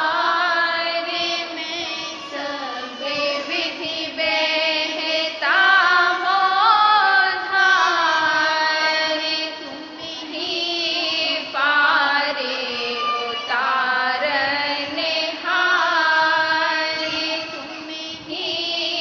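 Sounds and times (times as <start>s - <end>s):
devotional hymn singing: 0.0s - 19.0s.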